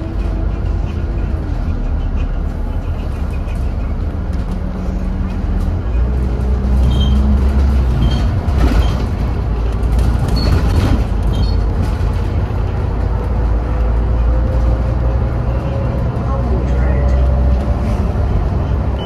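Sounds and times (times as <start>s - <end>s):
bus diesel engine drone: 0.0s - 19.0s
road noise: 0.0s - 19.0s.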